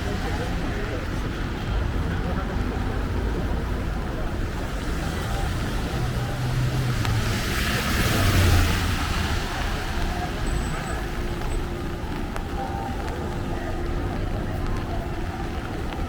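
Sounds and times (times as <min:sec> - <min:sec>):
city background noise: 0:00.0 - 0:16.0
vehicle passing on wet street: 0:00.0 - 0:16.0.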